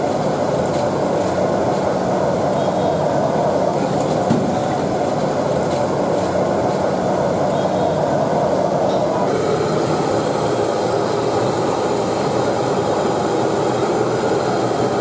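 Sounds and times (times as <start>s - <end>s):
gas burners rushing: 0.0s - 15.0s.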